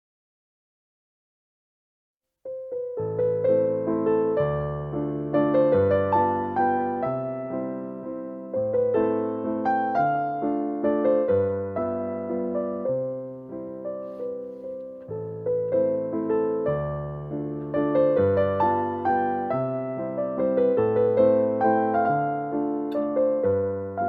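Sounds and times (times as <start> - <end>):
gentle piano melody: 2.5 - 24.0
low piano bass notes: 2.5 - 24.0.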